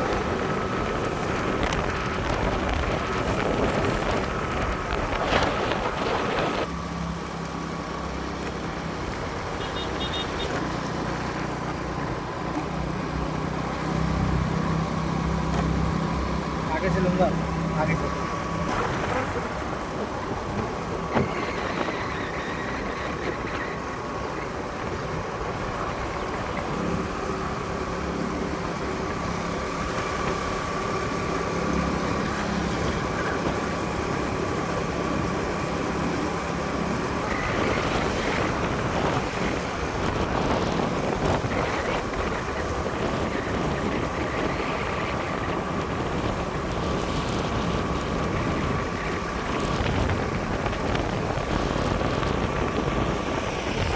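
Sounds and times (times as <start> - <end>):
road and wind noise: 0.0 - 53.9
vehicle engine drone: 0.0 - 53.9.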